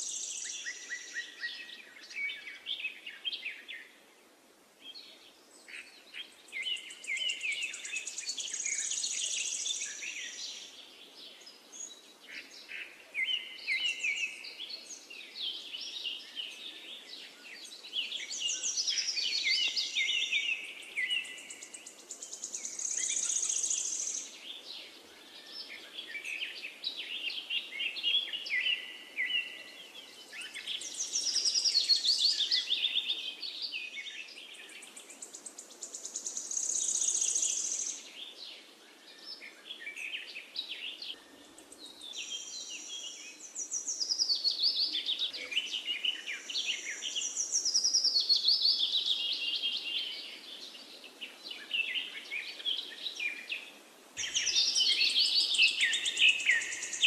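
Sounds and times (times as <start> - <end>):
birds chirping and trilling: 4.8 - 57.0.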